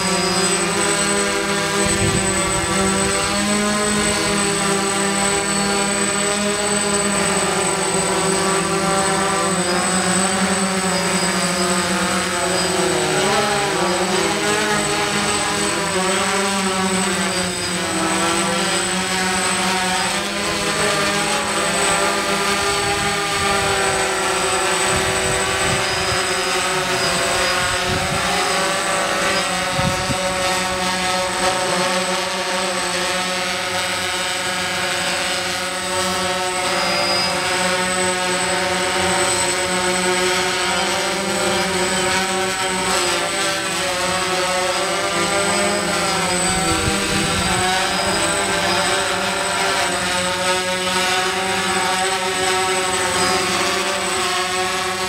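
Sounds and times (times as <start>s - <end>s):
drone propellers buzzing: 0.0s - 55.0s.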